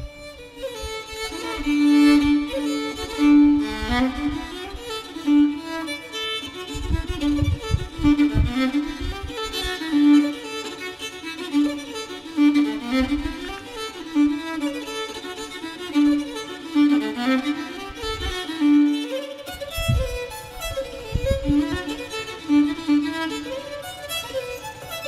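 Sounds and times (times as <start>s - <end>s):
bowed string melody: 0.0s - 25.0s.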